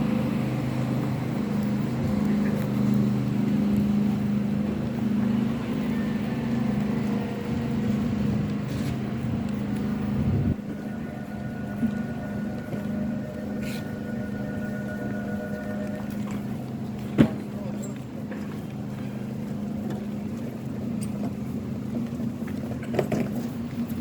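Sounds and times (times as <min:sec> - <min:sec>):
low mechanical drone: 0:00.0 - 0:22.5.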